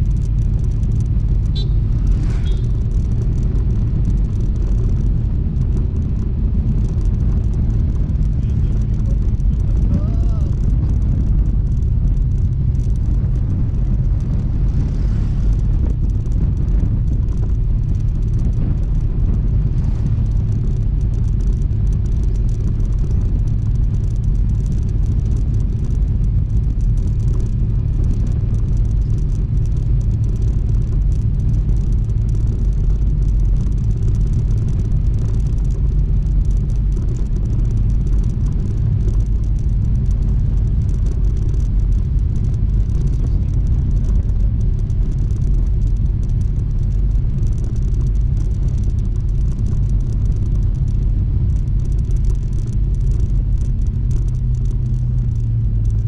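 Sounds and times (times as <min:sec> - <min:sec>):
scooter engine rumble: 0:00.0 - 0:56.0.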